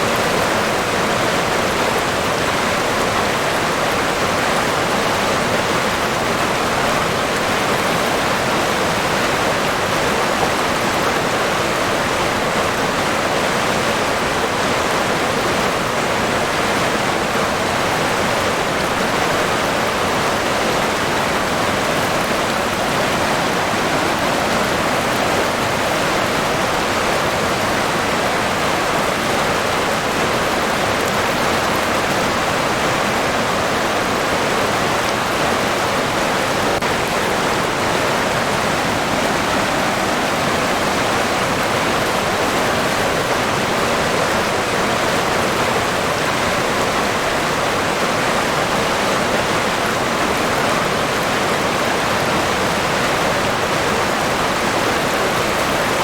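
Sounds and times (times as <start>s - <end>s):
river water rushing and splashing: 0.0s - 56.0s.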